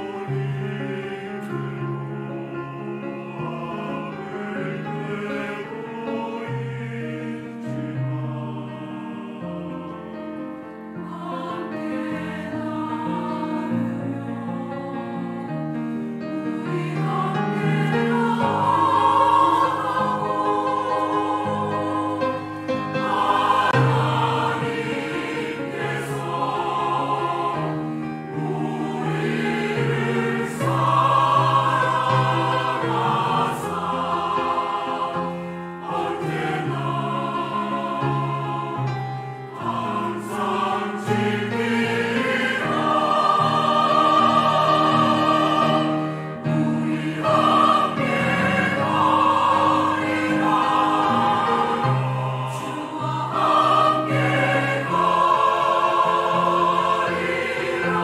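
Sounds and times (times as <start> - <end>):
choir breaths: 0.0 - 58.0
mixed choir singing: 0.0 - 58.0.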